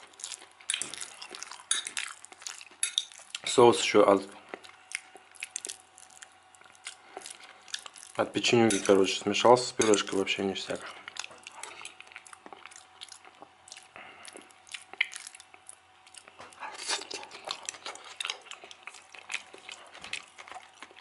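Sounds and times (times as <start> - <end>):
person chewing food: 0.0 - 3.6, 4.3 - 9.1, 9.9 - 21.0.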